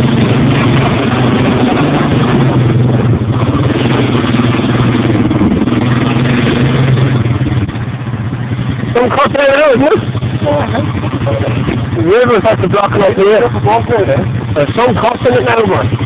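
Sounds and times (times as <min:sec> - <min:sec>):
quad bike engine fast idle: 0:00.0 - 0:16.0.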